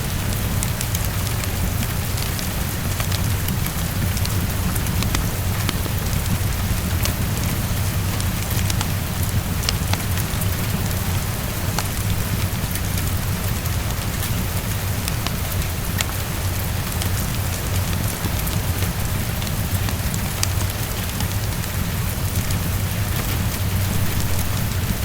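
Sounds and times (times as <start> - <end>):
heavy rain on a window: 0.0 - 25.0.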